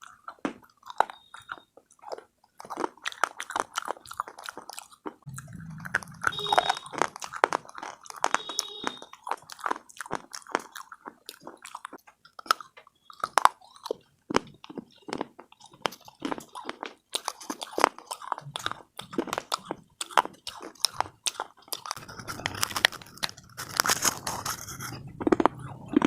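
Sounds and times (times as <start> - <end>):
person chewing crunchy pieces: 0.0 - 26.0.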